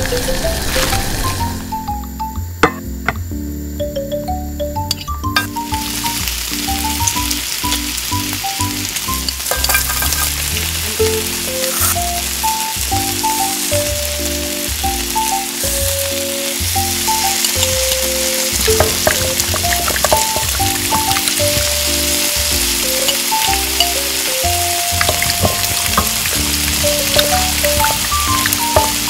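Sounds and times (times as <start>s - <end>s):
background music: 0.0s - 29.0s
potatoes sizzling in hot oil: 5.0s - 29.0s.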